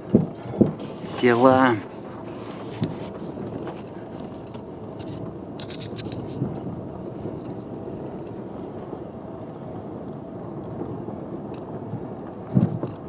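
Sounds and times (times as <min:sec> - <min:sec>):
car road and engine hum: 0:00.0 - 0:13.0.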